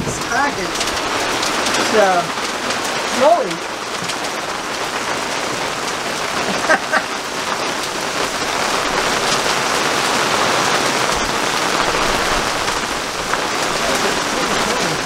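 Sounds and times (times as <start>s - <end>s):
rain falling on boat deck: 0.0s - 15.0s.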